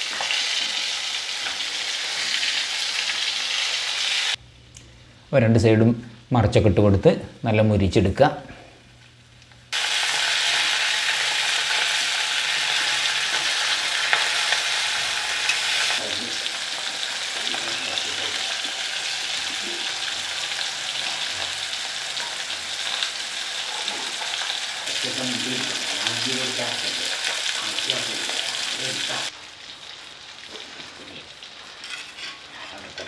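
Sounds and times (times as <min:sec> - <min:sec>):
fish sizzling in a pan: 0:00.0 - 0:04.4, 0:09.7 - 0:33.0.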